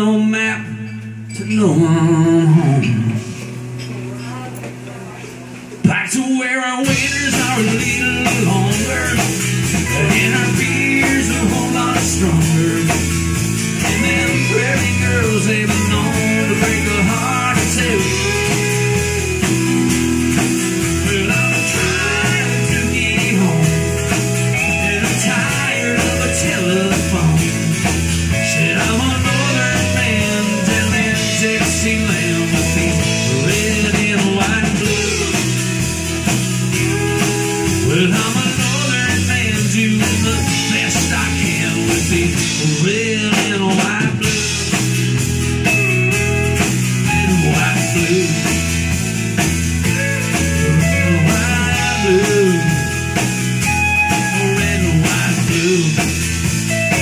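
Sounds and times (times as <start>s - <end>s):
live rock and roll band: 0.0s - 57.0s.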